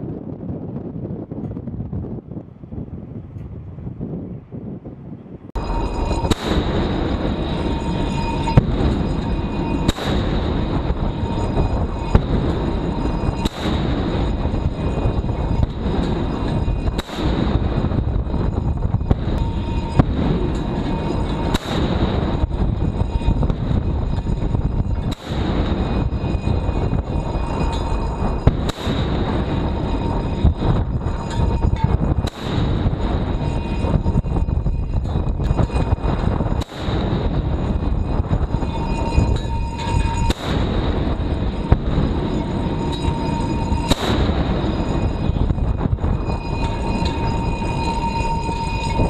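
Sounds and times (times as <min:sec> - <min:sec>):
ship noise: 0:00.0 - 0:49.0
wind rumble on microphone: 0:00.0 - 0:49.0.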